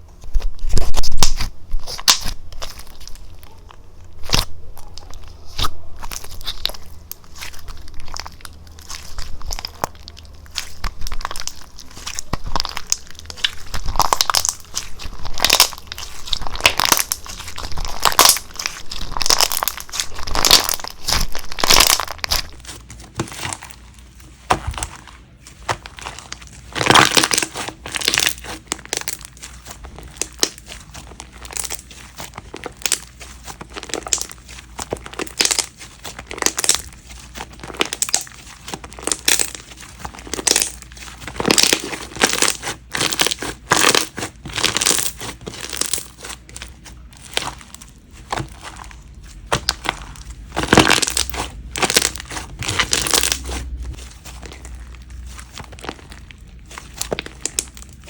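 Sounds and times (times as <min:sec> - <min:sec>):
crinkling and crunching: 0:00.0 - 0:58.0.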